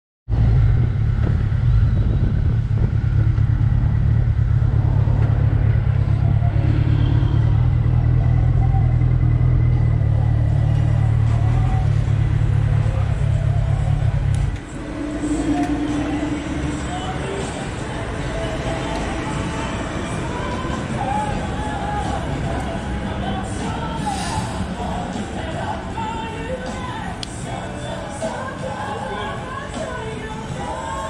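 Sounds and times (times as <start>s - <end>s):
wind rumble: 0.3s - 26.0s
motorcycle engine rumble: 0.3s - 31.0s.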